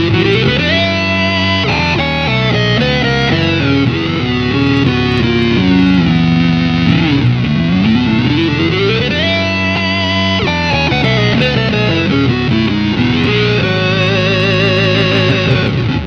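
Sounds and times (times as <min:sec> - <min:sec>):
synth-like electric guitar: 0:00.0 - 0:16.0.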